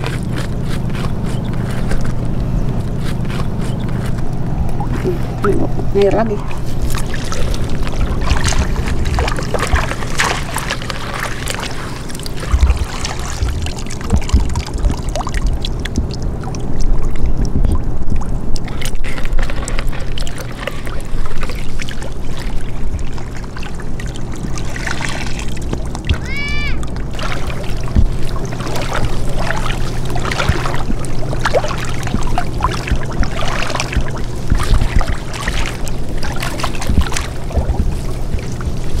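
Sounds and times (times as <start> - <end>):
stream water splashing and trickling: 0.0 - 39.0.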